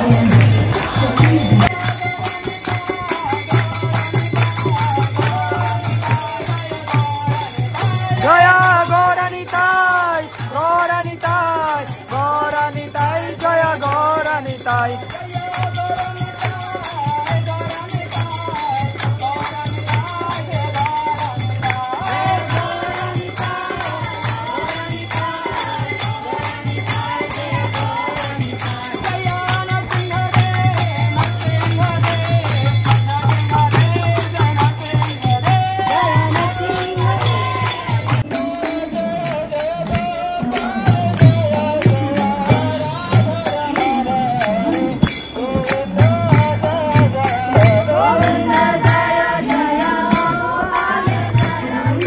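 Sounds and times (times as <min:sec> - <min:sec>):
jingling hand percussion: 0:00.0 - 0:52.0
voices chanting a melodic mantra: 0:00.0 - 0:52.0.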